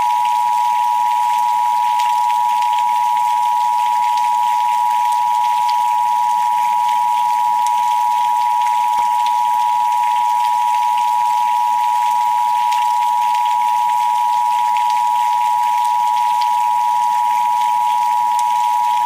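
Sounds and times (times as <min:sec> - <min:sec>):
pure meditation tone: 0:00.0 - 0:19.0.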